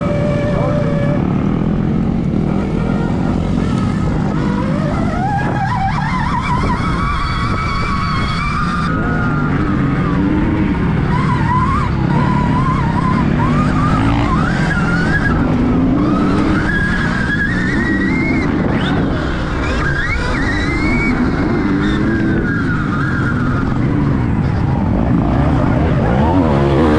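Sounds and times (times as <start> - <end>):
tyre and wind noise: 0.0 - 26.9.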